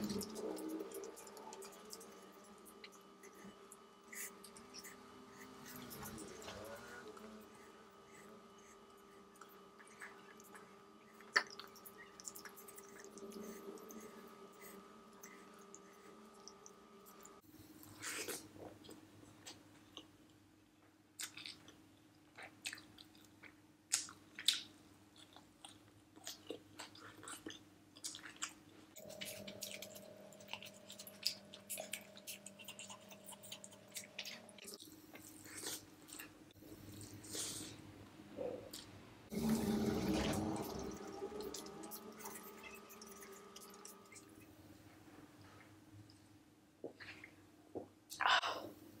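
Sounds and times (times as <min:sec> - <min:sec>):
person chewing with wet smacks: 0:00.0 - 0:20.4, 0:21.1 - 0:37.8, 0:41.4 - 0:44.6
faint steady hum: 0:00.0 - 0:49.0.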